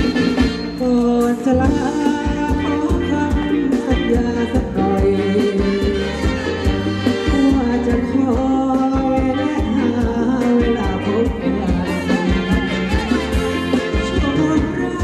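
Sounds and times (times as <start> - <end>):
saxophone: 0.0 - 15.0
person singing: 0.7 - 15.0.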